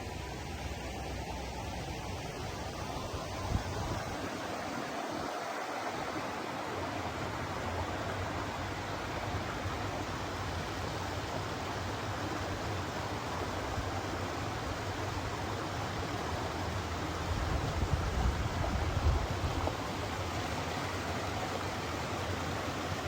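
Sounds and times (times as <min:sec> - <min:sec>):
stream rushing: 0:00.0 - 0:23.0.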